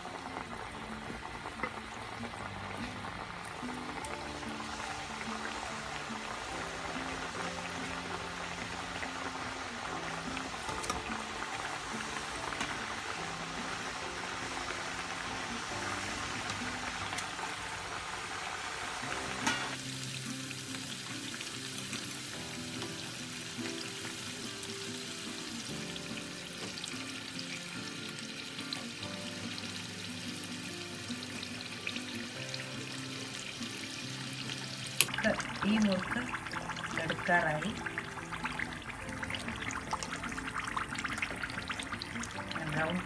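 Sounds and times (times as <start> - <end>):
background music with held notes: 0.0 - 43.0
dough deep-frying sizzle: 0.0 - 43.0.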